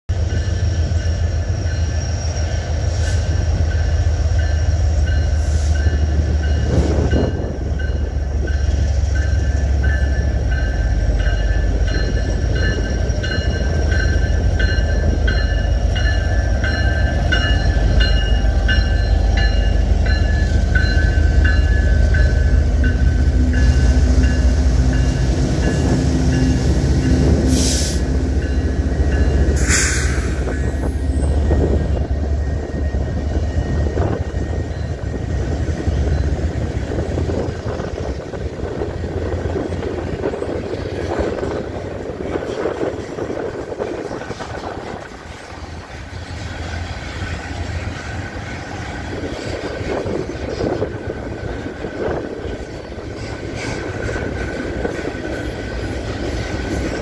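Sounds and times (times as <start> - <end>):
locomotive engines droning: 0.1 - 57.0.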